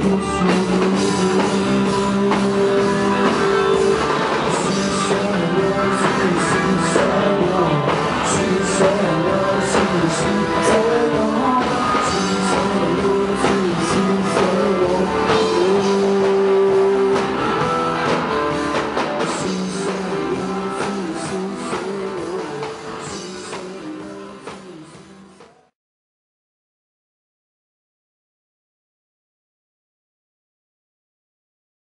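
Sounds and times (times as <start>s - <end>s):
live band playing: 0.0s - 25.7s.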